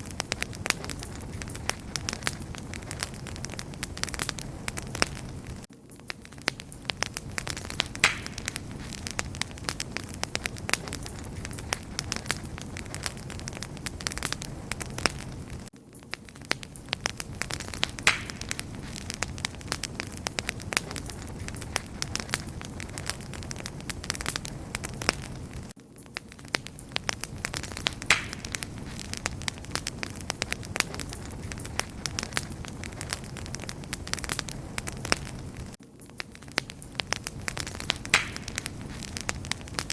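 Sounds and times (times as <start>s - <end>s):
low fire hiss: 0.0s - 39.9s
wood fire crackling and popping: 0.0s - 39.9s.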